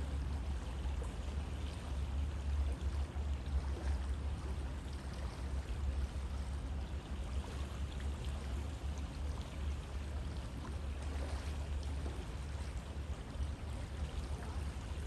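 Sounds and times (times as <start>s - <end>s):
small splashes: 2.5s - 15.0s.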